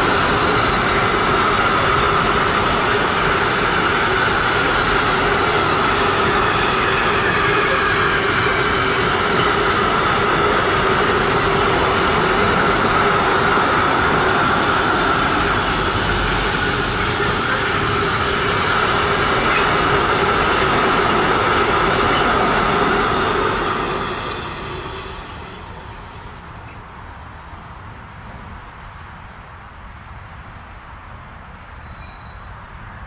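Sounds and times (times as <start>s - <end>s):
train wheels rumbling on rails: 0.0s - 29.5s.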